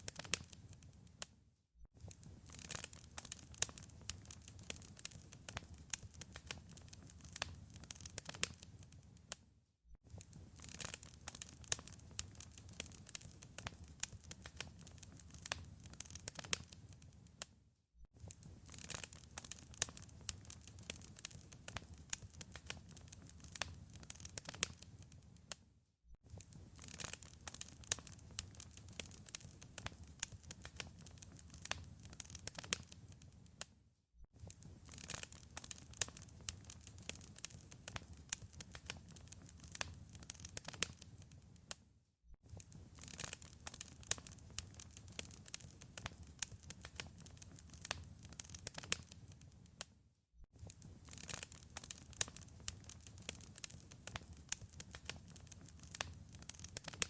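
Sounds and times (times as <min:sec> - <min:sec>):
fire crackling and popping: 0:00.0 - 0:01.3, 0:02.0 - 0:09.4, 0:10.1 - 0:17.5, 0:18.2 - 0:25.6, 0:26.2 - 0:33.7, 0:34.4 - 0:41.8, 0:42.4 - 0:49.9, 0:50.6 - 0:57.0
low rumble of burning: 0:02.0 - 0:09.2, 0:10.1 - 0:17.3, 0:18.2 - 0:25.5, 0:26.3 - 0:33.6, 0:34.4 - 0:41.5, 0:42.5 - 0:49.6, 0:50.6 - 0:57.0.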